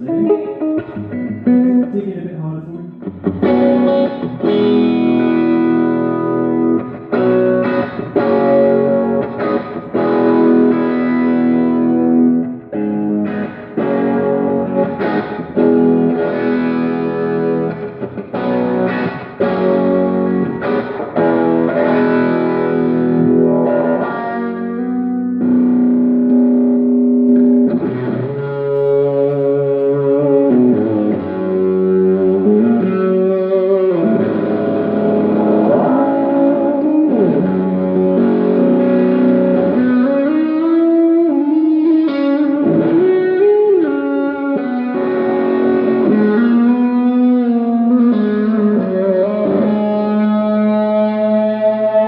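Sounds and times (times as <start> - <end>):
overdriven electric guitar: 0.0 - 2.2, 2.8 - 52.0.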